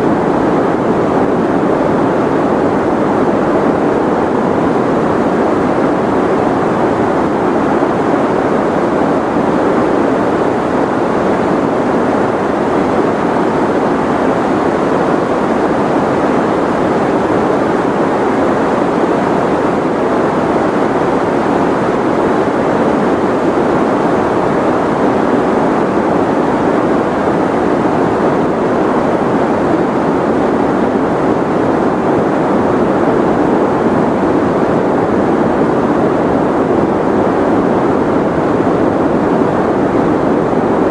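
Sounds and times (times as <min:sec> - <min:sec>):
muffled white noise: 0:00.0 - 0:40.9.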